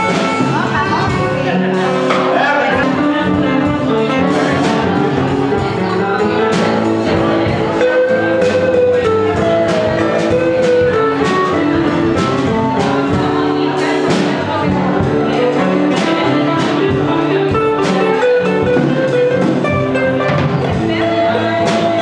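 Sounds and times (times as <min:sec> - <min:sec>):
drums: 0:00.0 - 0:22.0
harmonica notes: 0:00.0 - 0:22.0
strummed acoustic guitars: 0:00.0 - 0:22.0.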